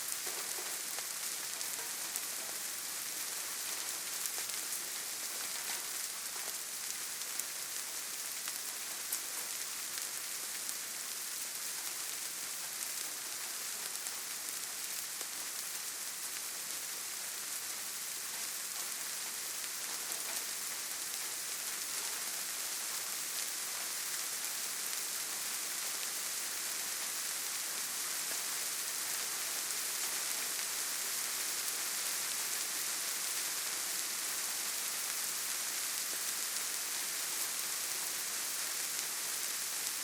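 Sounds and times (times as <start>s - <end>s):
gentle rain on leaves: 0.0s - 40.0s.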